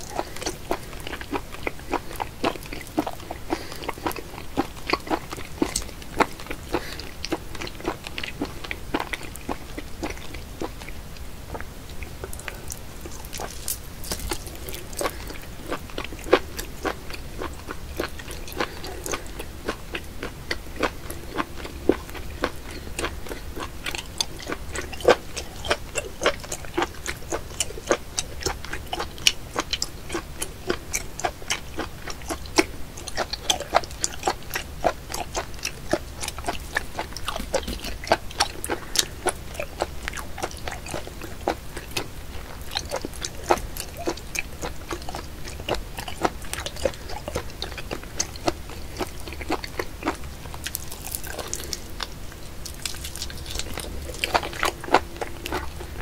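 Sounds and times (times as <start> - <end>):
wet chewing and slurping: 0.0 - 56.0.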